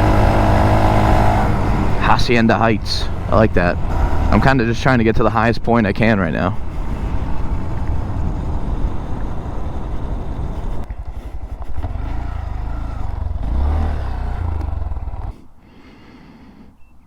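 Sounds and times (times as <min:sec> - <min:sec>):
small motorcycle engine revving: 0:00.0 - 0:15.5.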